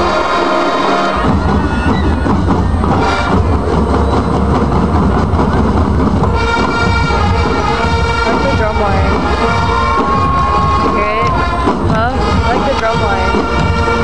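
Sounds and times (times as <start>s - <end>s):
sustained brass chords: 0.0s - 3.9s, 6.2s - 14.0s
drums: 0.0s - 14.0s
marching bands playing: 0.0s - 14.0s.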